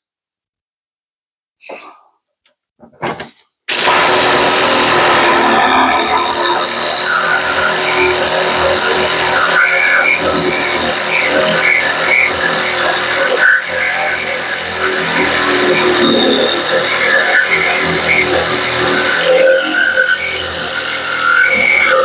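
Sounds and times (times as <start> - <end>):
jigsaw cutting sheet metal: 2.9 - 22.0.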